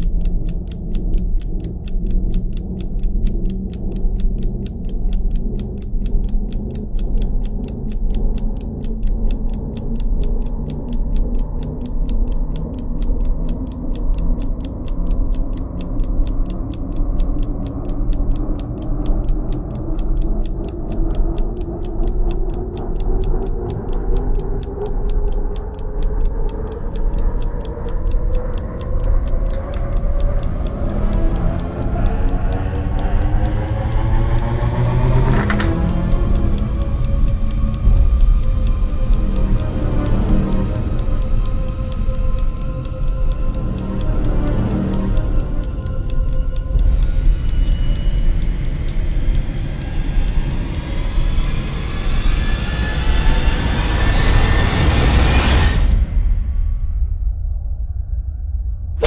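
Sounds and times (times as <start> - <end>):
clock-like ticking: 0.0 - 56.5
low pulsing drone: 0.0 - 59.0.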